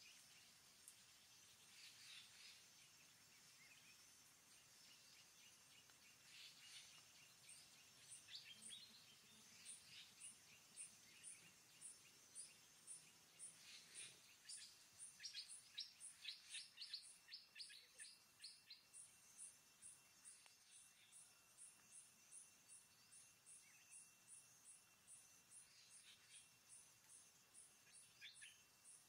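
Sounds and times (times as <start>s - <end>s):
high-pitched insect call: 0.0s - 29.0s.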